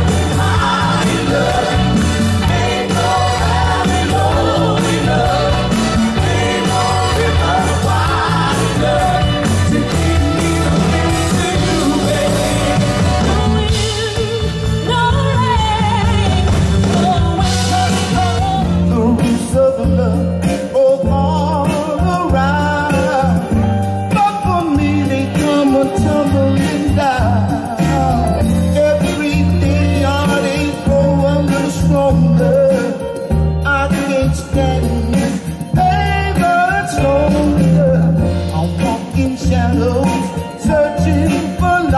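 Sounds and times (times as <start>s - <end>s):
person singing: 0.0s - 41.9s
soul band playing: 0.0s - 41.9s.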